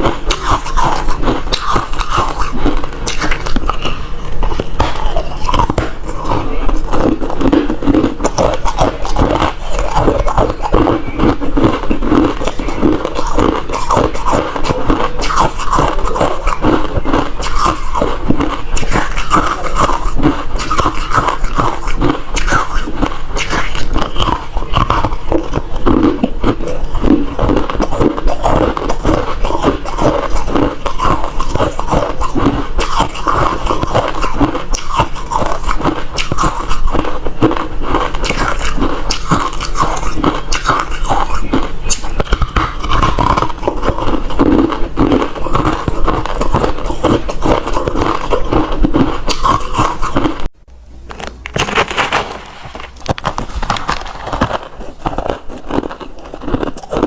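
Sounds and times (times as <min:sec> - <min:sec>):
chewing crushed ice: 0:00.0 - 0:50.5, 0:51.1 - 0:57.0.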